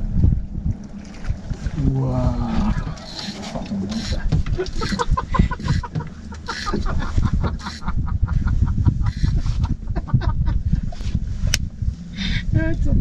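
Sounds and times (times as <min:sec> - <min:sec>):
low rumbling handling noise: 0:00.0 - 0:13.0.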